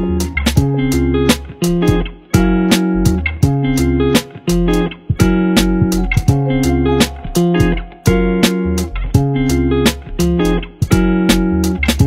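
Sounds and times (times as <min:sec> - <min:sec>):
plucked notes over bass line: 0:00.0 - 0:12.0.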